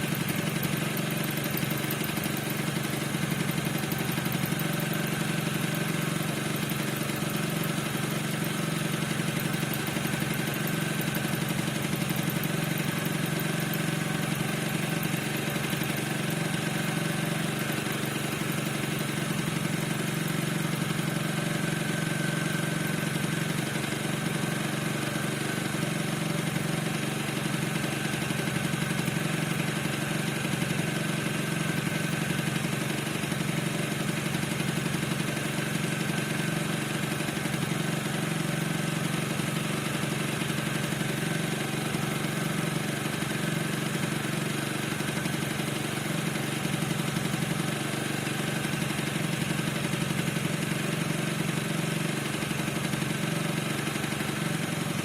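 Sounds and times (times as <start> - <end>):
scooter engine idling: 0.0 - 55.0.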